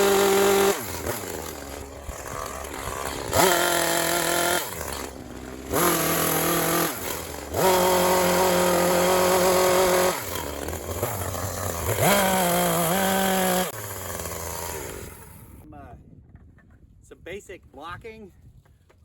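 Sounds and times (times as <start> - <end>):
chainsaw revving and idling: 0.0 - 15.7.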